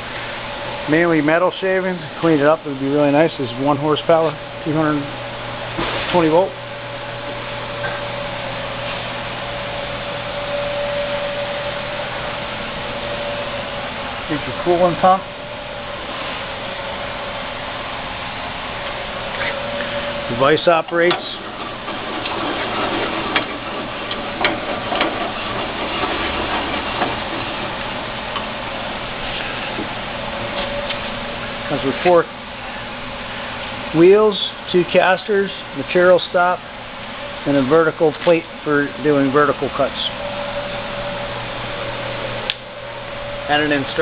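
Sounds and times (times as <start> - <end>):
motor hum and hiss: 0.0 - 44.0
band saw whirring: 5.6 - 44.0.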